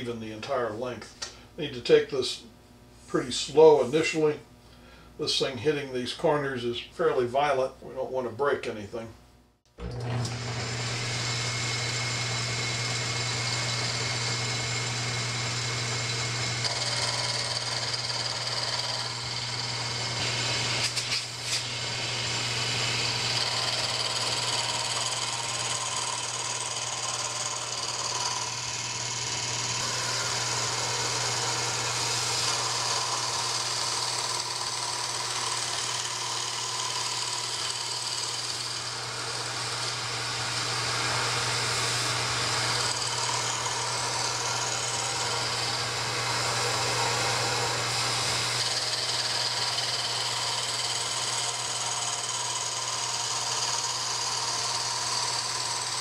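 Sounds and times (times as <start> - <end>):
lathe cutting wood: 9.8 - 56.0.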